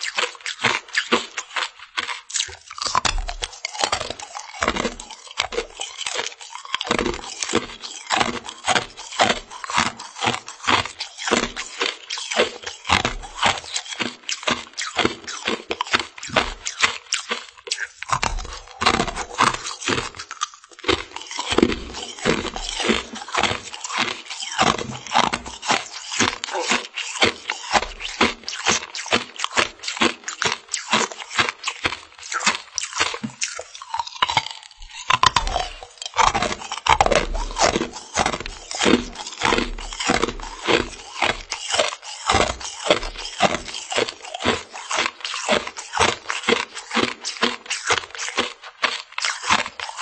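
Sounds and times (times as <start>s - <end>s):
crisp crunching of sweets: 0.0s - 50.0s.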